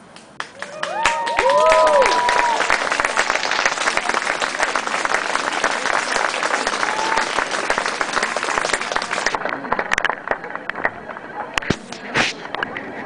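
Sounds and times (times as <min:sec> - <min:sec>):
crowd applauding: 0:00.4 - 0:11.7.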